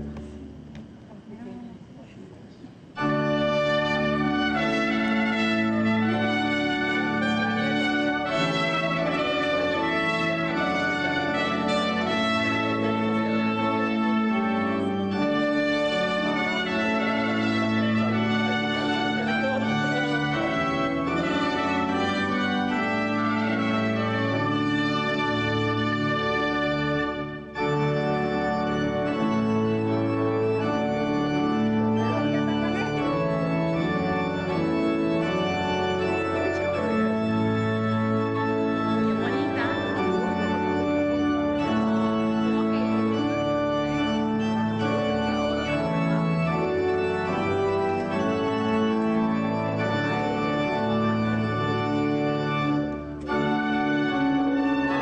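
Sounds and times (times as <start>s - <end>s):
church organ chords: 0.0s - 1.0s, 2.8s - 55.0s.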